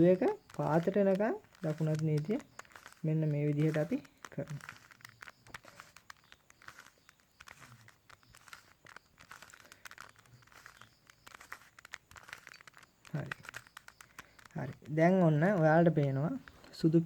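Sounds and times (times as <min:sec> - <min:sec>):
puzzle cube clicking and rattling: 0:00.0 - 0:17.0.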